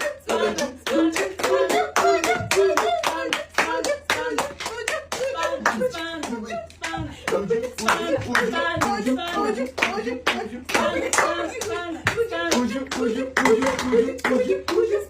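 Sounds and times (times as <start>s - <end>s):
hand claps: 0.0s - 15.0s
voices chanting and singing: 0.0s - 15.0s.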